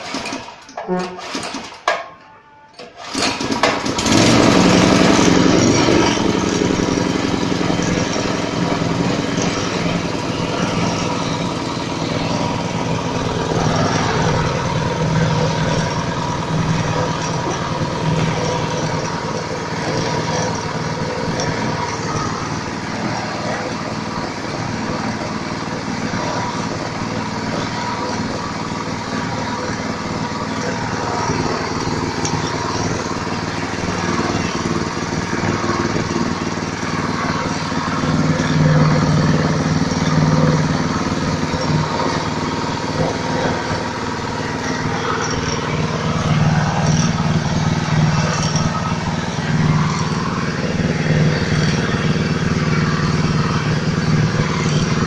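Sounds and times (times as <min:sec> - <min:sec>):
small engine running: 0:03.0 - 0:55.0
steady high whine: 0:05.0 - 0:55.0.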